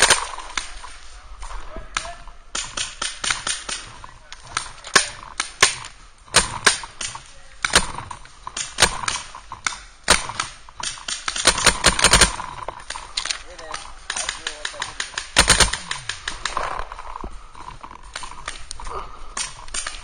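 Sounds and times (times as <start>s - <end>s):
paintball markers firing: 1.9s - 20.0s.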